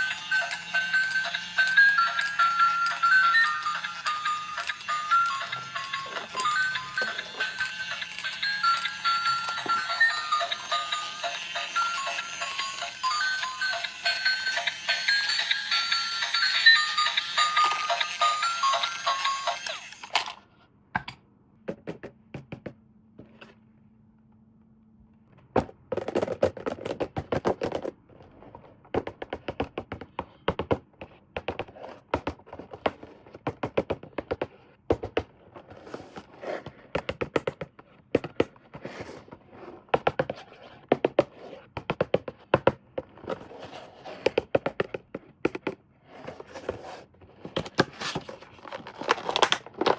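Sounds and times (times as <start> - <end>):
plastic toys and packaging handled: 0.0 - 20.8, 25.2 - 49.9.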